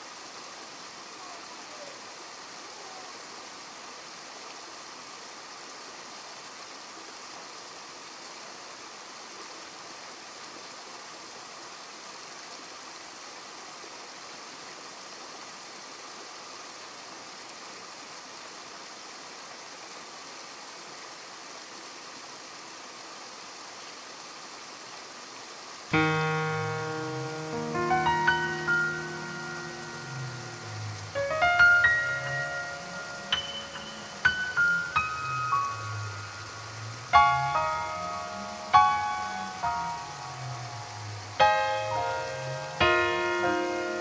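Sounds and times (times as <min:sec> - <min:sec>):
river rushing over a weir: 0:00.0 - 0:44.0.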